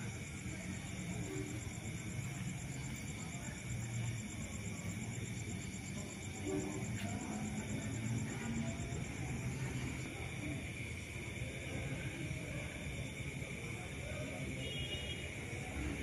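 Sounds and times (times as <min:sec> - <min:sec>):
faint murmur of voices: 0:00.0 - 0:16.0
insects chirping: 0:00.0 - 0:16.0.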